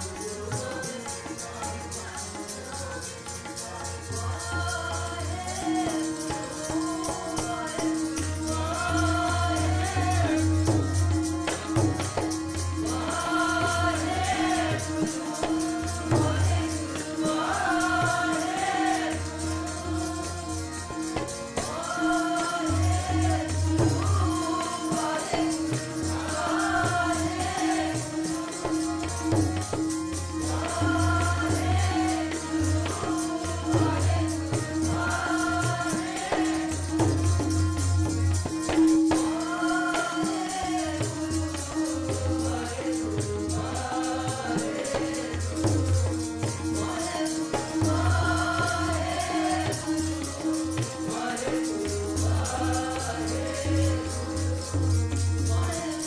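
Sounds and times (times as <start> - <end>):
harmonium drone: 0.0 - 56.0
many voices singing: 0.0 - 56.0
person leading devotional chant: 0.0 - 56.0
tabla: 0.0 - 56.0.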